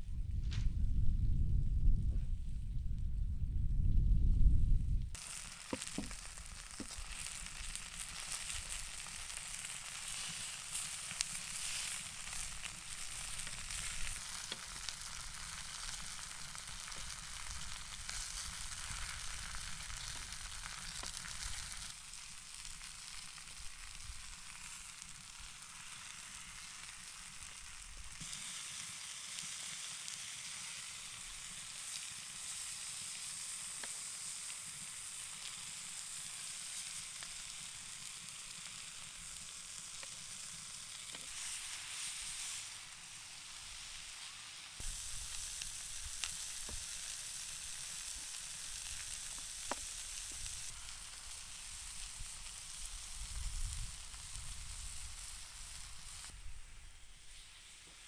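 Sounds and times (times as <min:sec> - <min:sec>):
food sizzling in a pan: 0:05.2 - 0:58.0.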